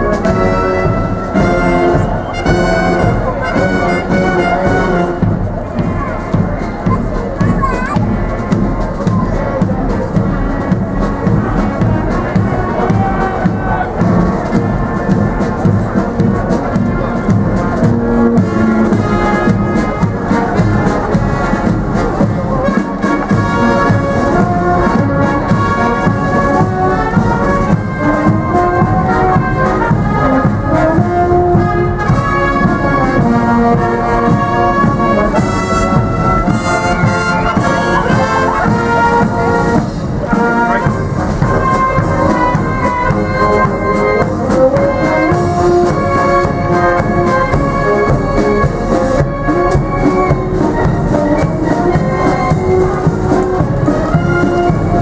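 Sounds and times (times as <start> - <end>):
marching brass band playing: 0.0 - 55.0.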